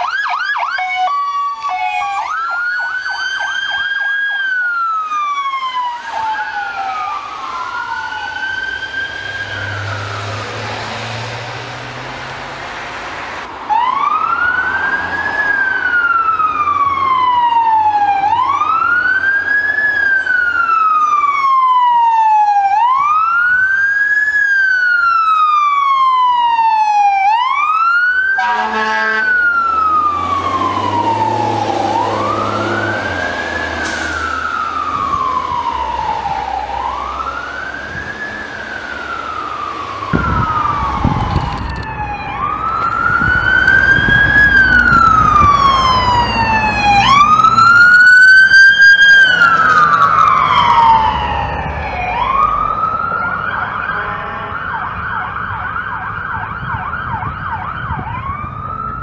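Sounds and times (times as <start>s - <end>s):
fire engine siren wailing: 0.0s - 59.0s.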